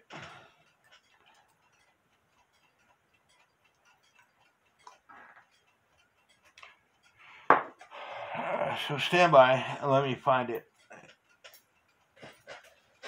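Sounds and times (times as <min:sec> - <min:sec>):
clock ticking faintly: 0:00.0 - 0:13.0.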